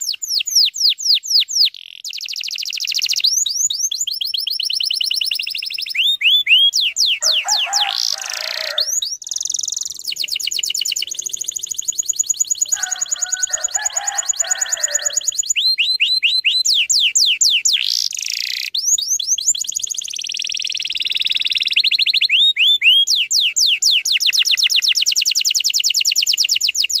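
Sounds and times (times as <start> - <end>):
canary chattering: 0.0 - 27.0
canary singing trills: 0.0 - 27.0.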